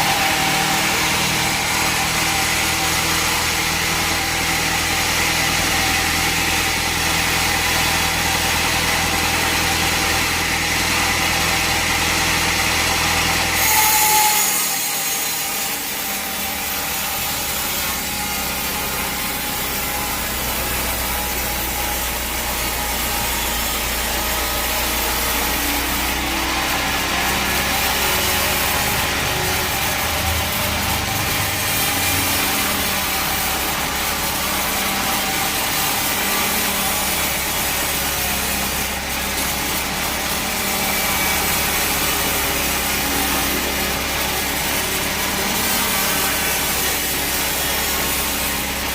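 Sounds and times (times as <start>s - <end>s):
bandsaw blade sawing through log: 0.0s - 48.9s.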